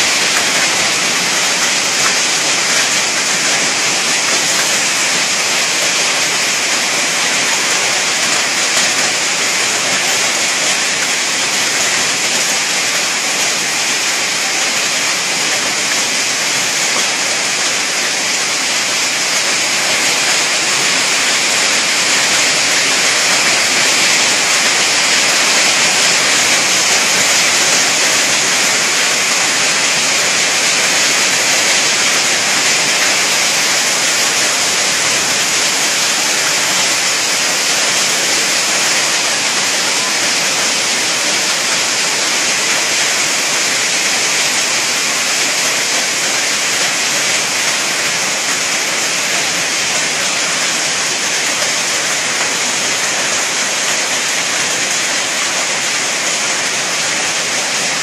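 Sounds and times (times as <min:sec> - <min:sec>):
hail and rain pouring down: 0:00.0 - 0:58.0.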